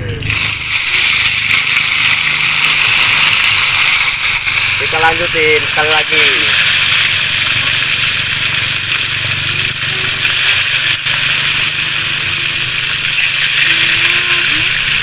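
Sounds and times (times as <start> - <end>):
food sizzling in hot oil: 0.2 - 15.0
oil crackling: 0.2 - 15.0.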